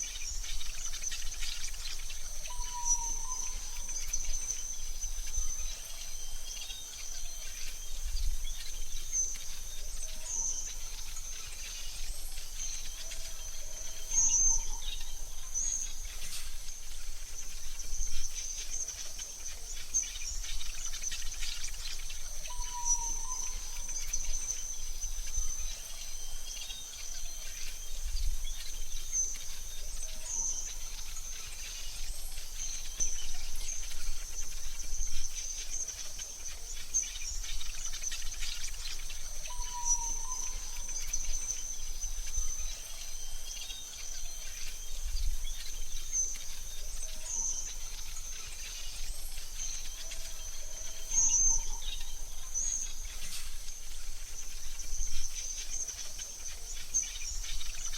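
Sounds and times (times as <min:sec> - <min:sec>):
high-pitched insect trill: 0:00.0 - 0:57.9.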